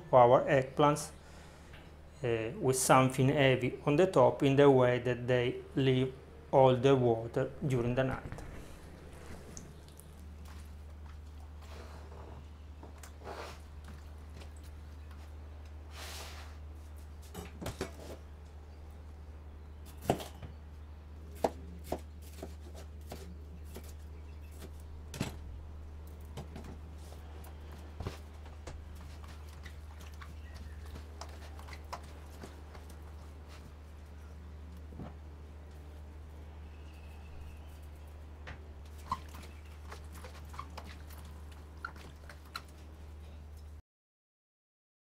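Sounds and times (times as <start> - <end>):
steady low hum: 0.0 - 43.8.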